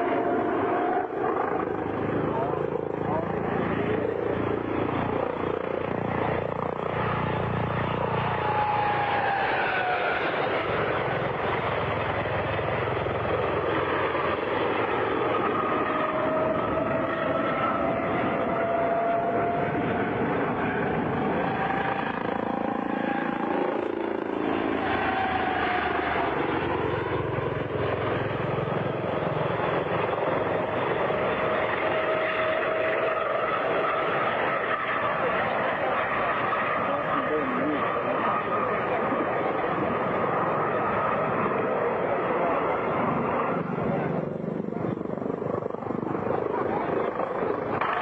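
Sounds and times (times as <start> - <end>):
helicopter rotor and engine: 0.0 - 48.0.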